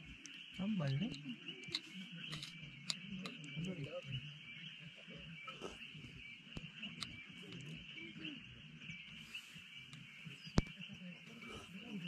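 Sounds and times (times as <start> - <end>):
low wavering animal calls: 0.0 - 12.0.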